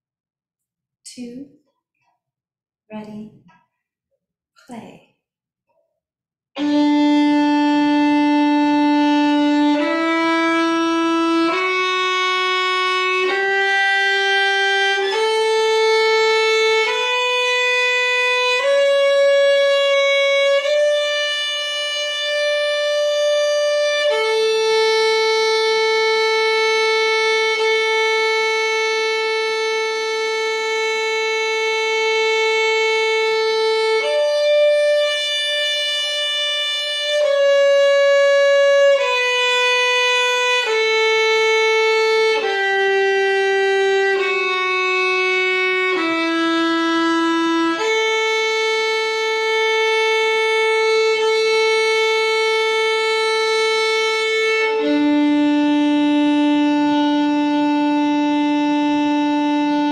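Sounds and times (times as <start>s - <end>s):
solo violin long notes: 6.6s - 59.9s.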